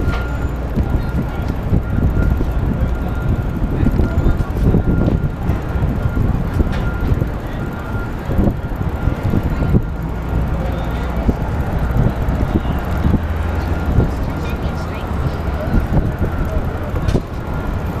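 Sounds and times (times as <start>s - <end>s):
city street noise: 0.0s - 18.0s
wind buffeting microphone: 0.0s - 18.0s.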